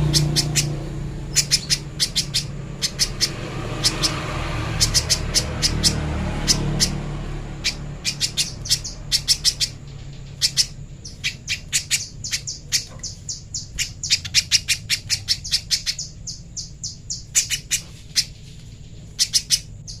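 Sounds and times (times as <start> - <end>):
bird calling in sharp chips: 0.0 - 20.0.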